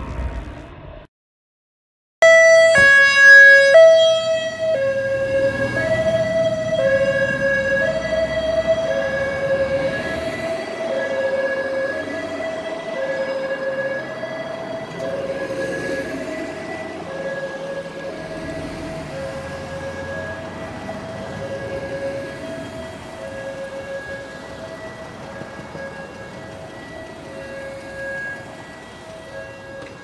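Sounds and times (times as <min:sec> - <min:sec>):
ambulance two-tone siren: 0:02.2 - 0:30.0
low traffic rumble: 0:02.3 - 0:30.0.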